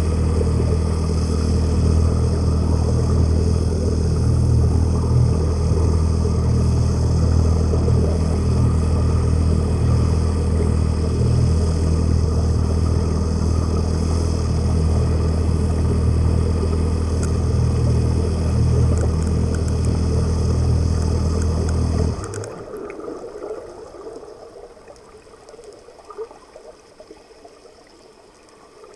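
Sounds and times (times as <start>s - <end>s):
boat engine heard underwater: 0.0s - 28.9s.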